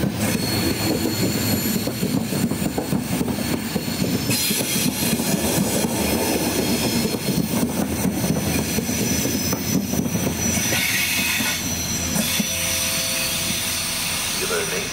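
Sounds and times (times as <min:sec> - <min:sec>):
train rolling past: 0:00.0 - 0:14.9
train wheels clicking over rail joints: 0:00.0 - 0:14.9.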